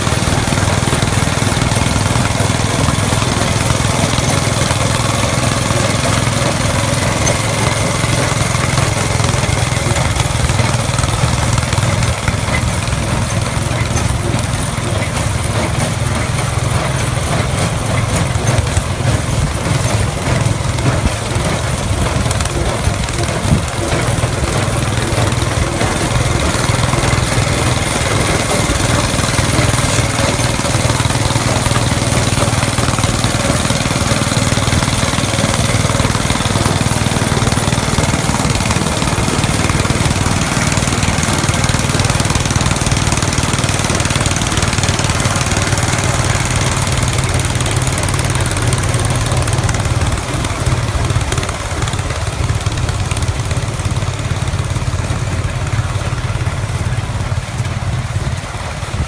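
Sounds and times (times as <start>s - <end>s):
tractor and baler engines droning: 0.0s - 59.0s.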